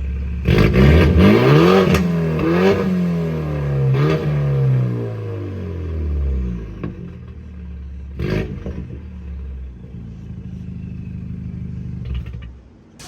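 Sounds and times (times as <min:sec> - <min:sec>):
car engine revving and idling: 0:00.0 - 0:12.7.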